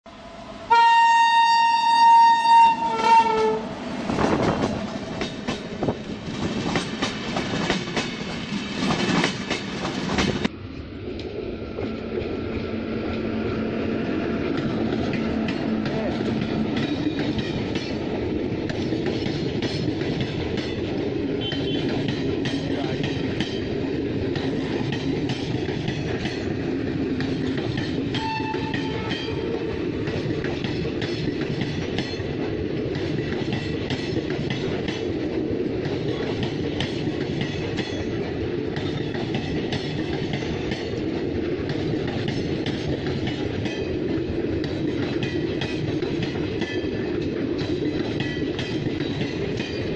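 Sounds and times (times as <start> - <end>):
train wheels clattering over rails: 3.2 - 10.5, 14.0 - 49.9.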